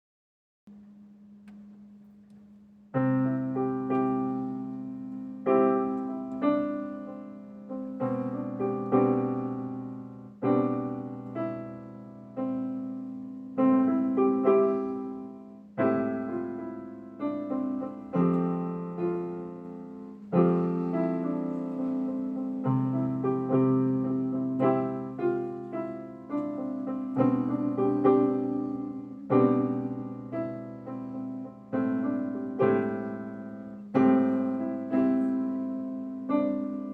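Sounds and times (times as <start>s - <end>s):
keyboard power chords ringing: 3.0s - 36.9s.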